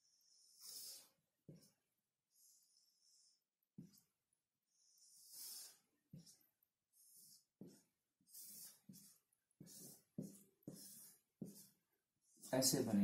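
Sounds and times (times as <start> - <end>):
marker scratching on whiteboard: 0.3 - 2.6, 3.8 - 4.1, 4.8 - 13.0.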